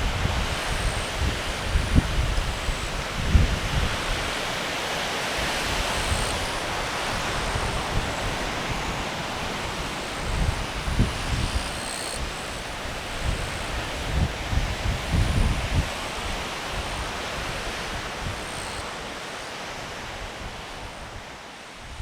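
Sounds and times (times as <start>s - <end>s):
ocean surf: 0.0s - 11.1s, 12.3s - 22.0s
wind rumbling on microphone: 0.0s - 19.0s.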